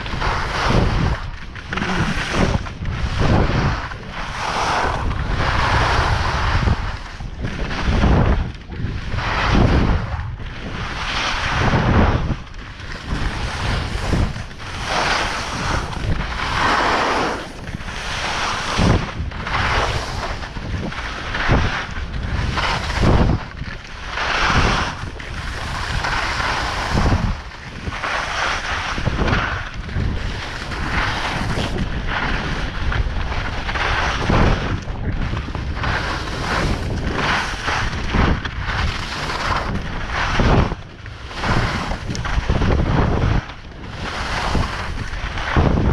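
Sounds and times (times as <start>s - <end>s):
skis scraping on snow: 0.0s - 45.9s
wind on microphone: 0.0s - 45.9s.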